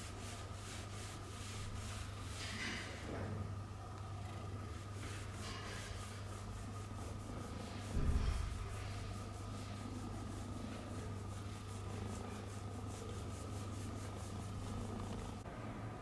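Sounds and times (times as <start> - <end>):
hand rubbing cat fur: 0.0 - 3.0, 4.3 - 15.4
steady low hum: 0.0 - 16.0.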